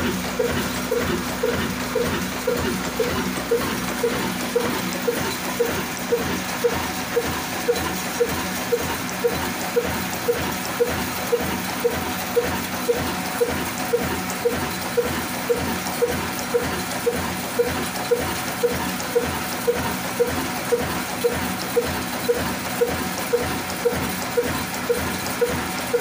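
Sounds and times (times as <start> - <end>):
diesel engine running slowly: 0.0 - 26.0.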